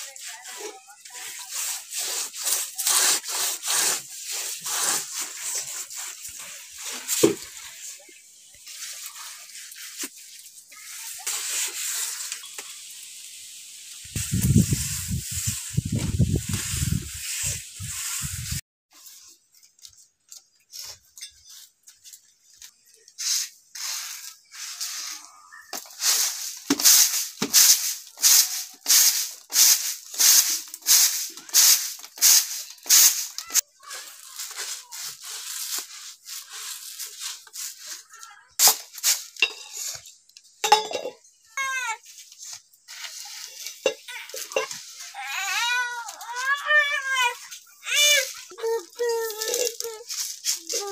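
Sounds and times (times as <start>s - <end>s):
rice rustling on winnowing tray: 0.0s - 50.9s.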